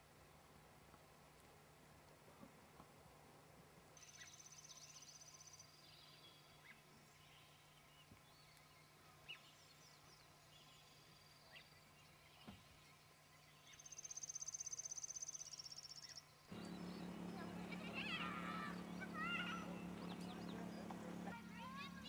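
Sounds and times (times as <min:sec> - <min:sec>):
songbirds trilling: 0:04.0 - 0:22.0.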